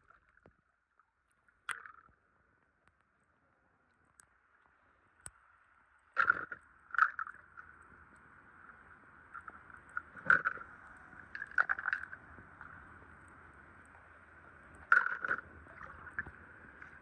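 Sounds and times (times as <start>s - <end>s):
faint high hum: 2.2s - 17.0s.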